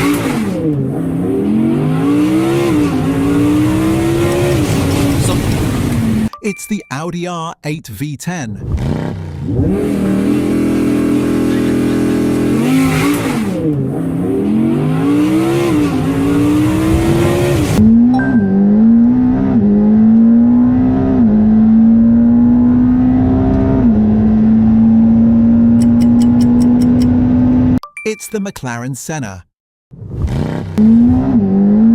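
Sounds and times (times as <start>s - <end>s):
car engine revving and accelerating: 0.0s - 6.3s, 8.6s - 27.8s, 30.0s - 31.9s.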